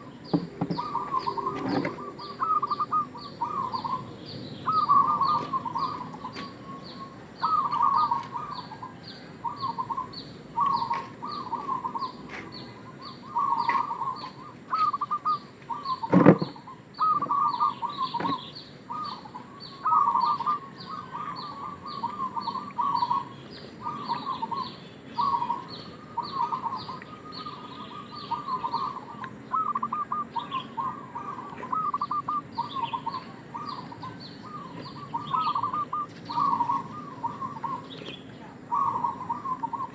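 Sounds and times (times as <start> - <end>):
dove cooing: 0.0 - 39.9
high chirping: 0.0 - 39.9.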